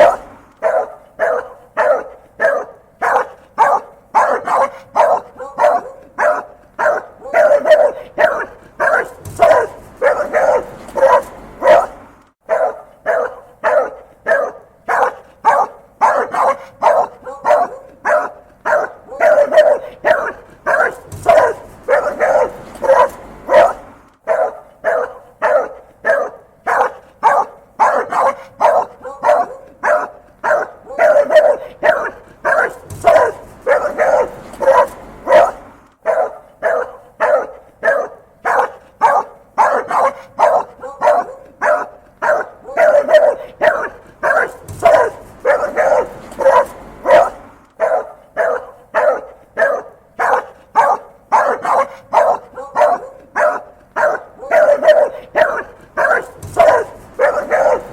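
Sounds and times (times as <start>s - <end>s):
dog barking angrily: 0.0s - 57.9s.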